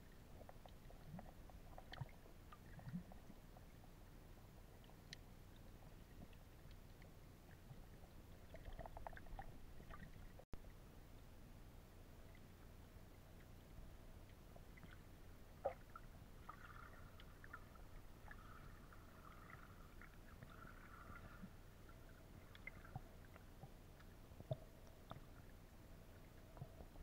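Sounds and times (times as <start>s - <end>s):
small clicks and ticks: 0.0s - 11.3s, 12.2s - 27.0s
muffled underwater rumble: 0.0s - 27.0s.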